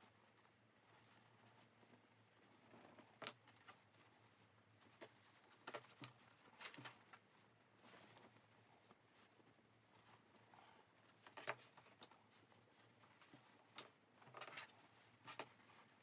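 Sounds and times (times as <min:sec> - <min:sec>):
fabric rustling: 0:00.0 - 0:16.0.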